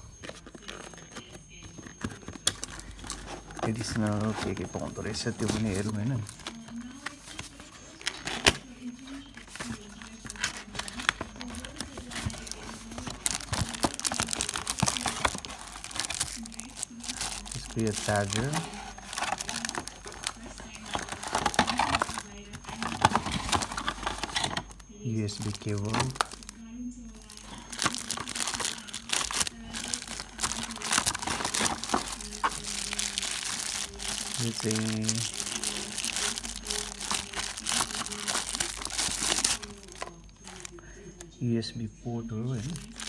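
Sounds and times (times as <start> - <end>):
plastic bags crinkling: 0.0 - 40.7, 42.5 - 43.0.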